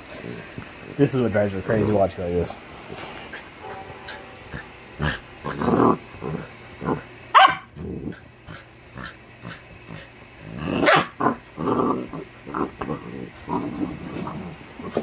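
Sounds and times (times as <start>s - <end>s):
puppy play-growling and grunting: 0.0s - 1.0s, 2.6s - 15.0s.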